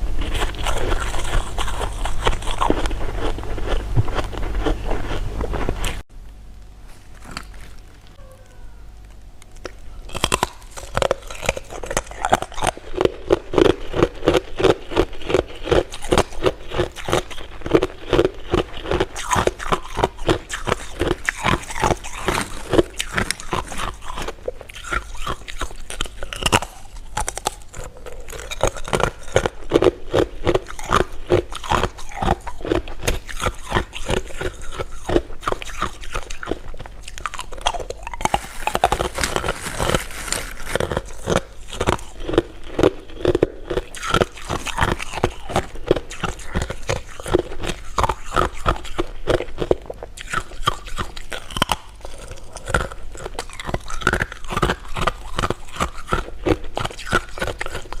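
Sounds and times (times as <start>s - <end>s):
chewing and crunching sweets: 0.0s - 8.3s, 8.9s - 58.0s.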